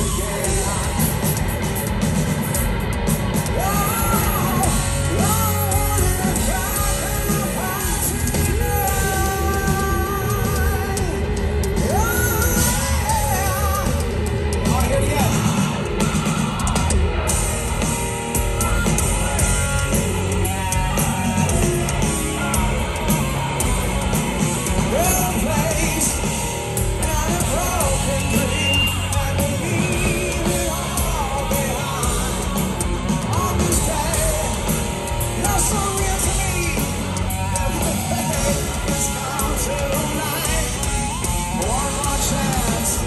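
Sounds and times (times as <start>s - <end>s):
person singing: 0.0s - 2.0s, 3.3s - 43.0s
bass guitar: 0.0s - 43.0s
distorted electric guitars: 0.0s - 43.0s
drums: 0.0s - 43.0s.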